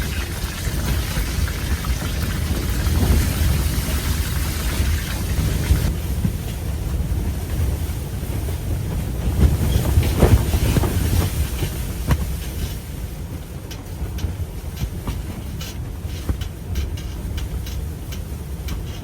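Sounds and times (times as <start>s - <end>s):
wind buffeting microphone: 0.0s - 18.8s.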